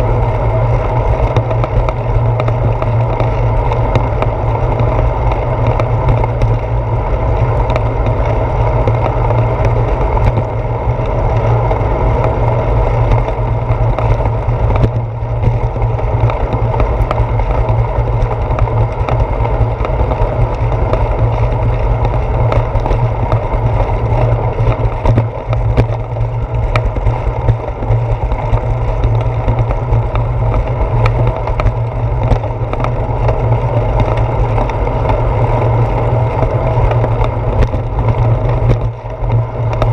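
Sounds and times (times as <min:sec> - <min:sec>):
bicycle tyre rumble on concrete: 0:00.0 - 0:39.9.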